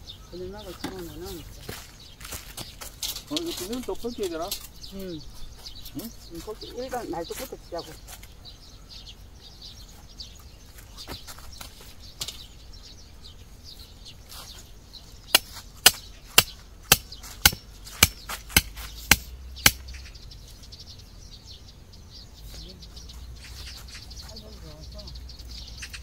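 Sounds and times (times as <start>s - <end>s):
bird chirps: 0.0s - 26.0s.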